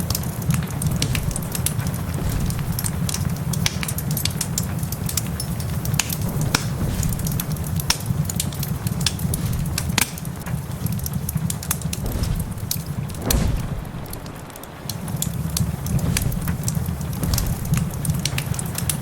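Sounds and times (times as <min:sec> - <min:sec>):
low fire rumble: 0:00.0 - 0:19.0
rain: 0:00.0 - 0:19.0
wood fire crackling: 0:00.0 - 0:19.0.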